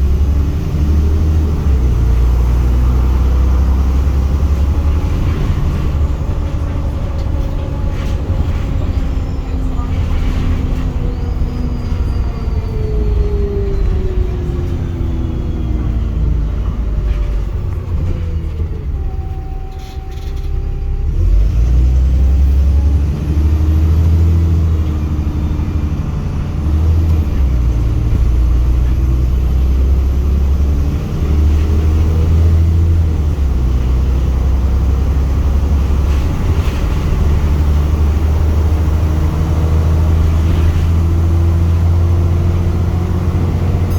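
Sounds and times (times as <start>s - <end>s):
bus engine rumbling: 0.0s - 43.9s.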